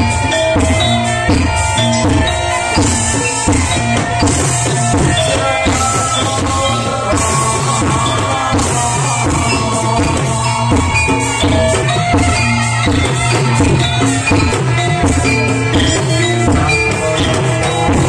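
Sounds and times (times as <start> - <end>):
drums beating fast: 0.0 - 18.0
gamelan metal keys ringing: 0.0 - 18.0.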